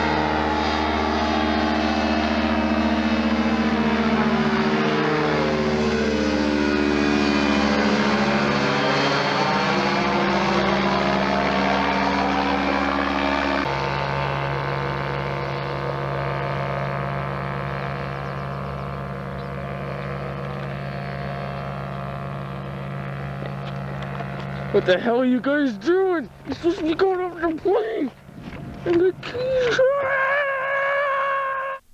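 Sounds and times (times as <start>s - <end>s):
ultralight aircraft engine and propeller: 0.0s - 31.7s.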